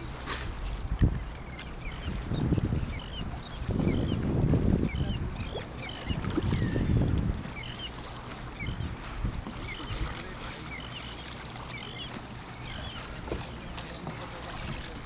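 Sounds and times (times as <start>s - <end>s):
water and wind rumble: 0.0s - 15.0s.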